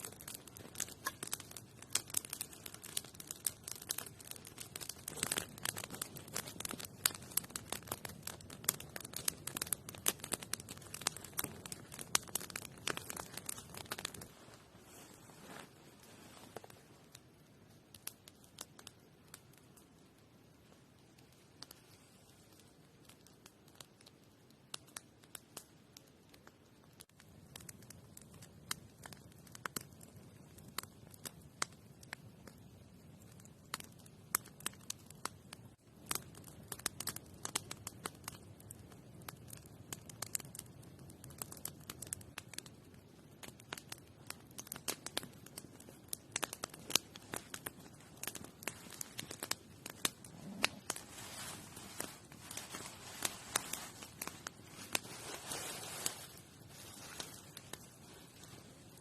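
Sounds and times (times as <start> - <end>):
sharp crackles and clicks: 0.0 - 59.0.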